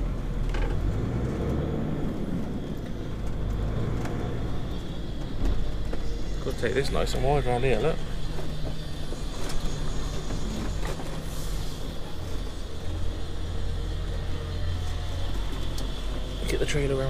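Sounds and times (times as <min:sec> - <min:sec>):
diesel truck engine hum: 0:00.0 - 0:17.0.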